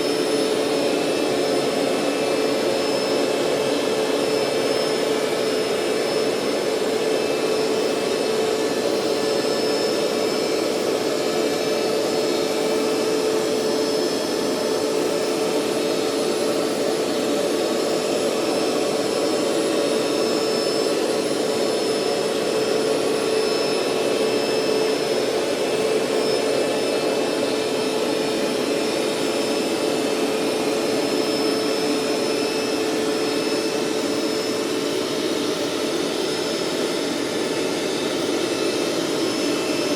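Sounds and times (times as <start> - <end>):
carpet cleaner running: 0.0 - 39.9.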